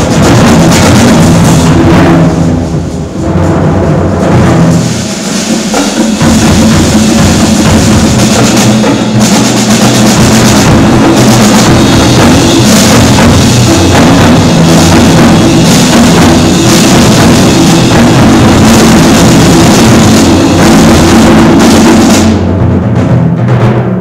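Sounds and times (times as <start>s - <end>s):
high percussion wash: 0.0s - 24.0s
timpani and drums: 0.0s - 24.0s.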